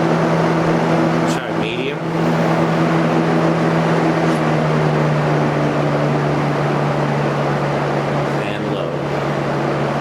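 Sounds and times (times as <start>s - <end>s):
air rushing from fan blades: 0.0s - 10.0s
box fan motor hum: 0.0s - 10.0s.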